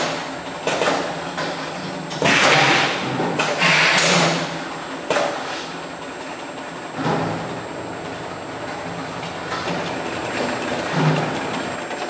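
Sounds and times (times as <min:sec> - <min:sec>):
machine hum and whine: 0:00.0 - 0:12.0.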